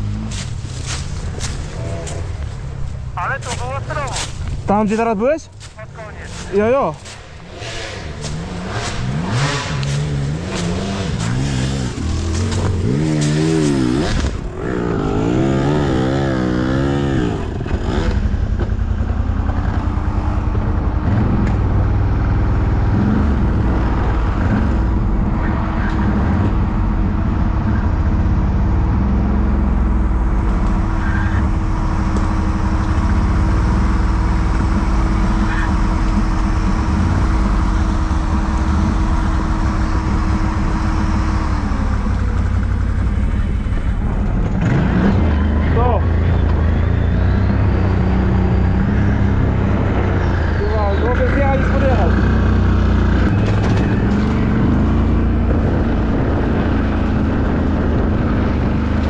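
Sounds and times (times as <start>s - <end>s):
atv engine revving: 6.3s - 59.0s.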